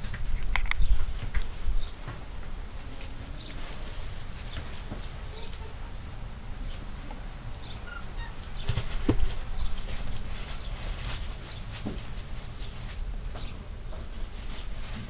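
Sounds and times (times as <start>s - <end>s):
puppy rustling and scuffling: 0.0s - 6.0s, 6.6s - 15.0s.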